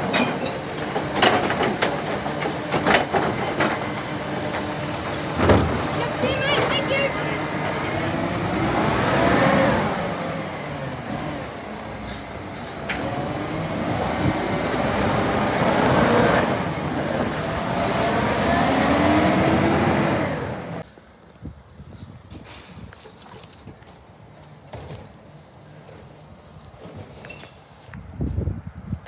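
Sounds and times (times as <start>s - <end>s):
garbage truck engine and hydraulics: 0.0s - 28.9s.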